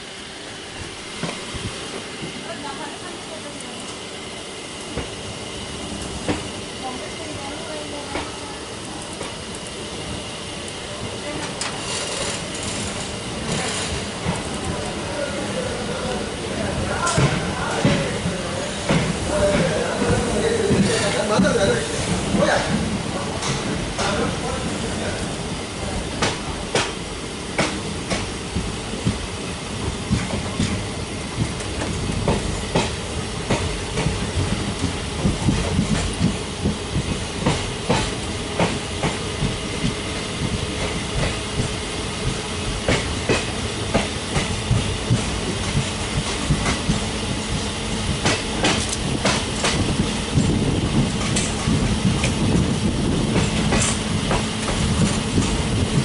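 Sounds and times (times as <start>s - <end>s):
train rumble and hum: 0.0s - 56.0s
train wheels clicking on rail joints: 5.9s - 15.0s, 16.0s - 56.0s.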